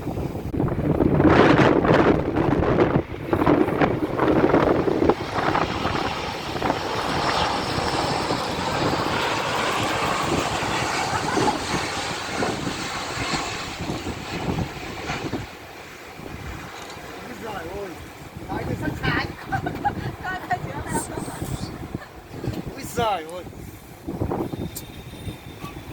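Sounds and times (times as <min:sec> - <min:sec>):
airliner engine rush overhead: 0:00.0 - 0:25.9.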